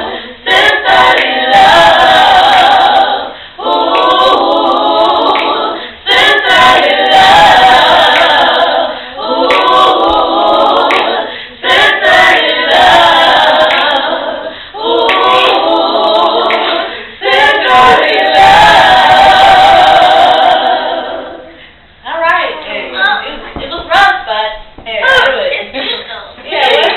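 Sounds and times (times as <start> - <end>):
women singing a cappella: 0.0 - 22.8, 23.5 - 26.9.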